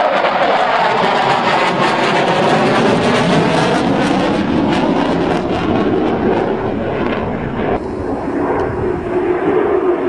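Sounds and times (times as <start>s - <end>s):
jet aircraft flying past: 0.0s - 10.0s.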